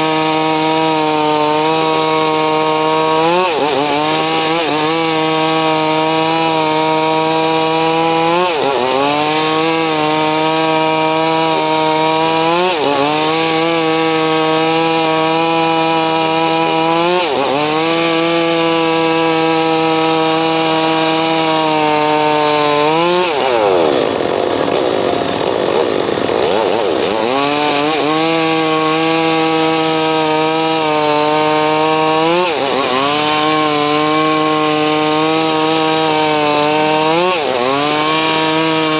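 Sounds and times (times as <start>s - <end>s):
power saw cutting wood: 0.0s - 38.9s.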